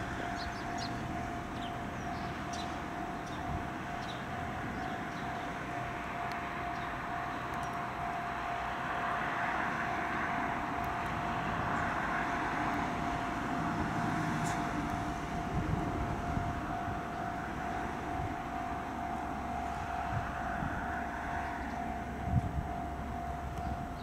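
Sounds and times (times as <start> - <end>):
road traffic passing: 0.0 - 24.0
steady high-pitched tone: 0.0 - 24.0.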